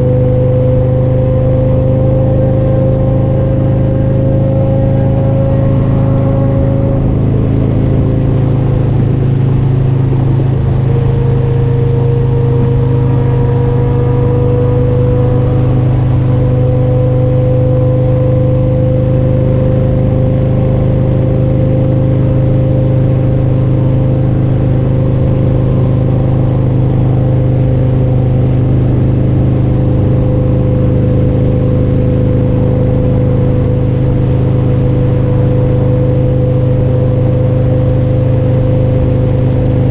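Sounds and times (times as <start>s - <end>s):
motorcycle engine cruising: 0.0s - 39.9s
rising whine: 0.0s - 39.9s.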